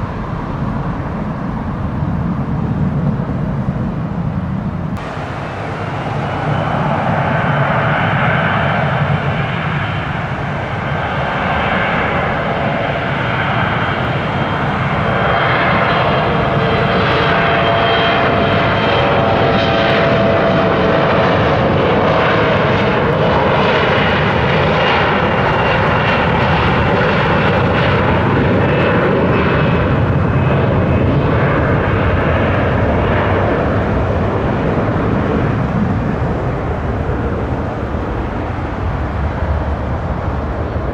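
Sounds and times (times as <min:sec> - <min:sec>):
airliner engines running: 0:00.0 - 0:40.9.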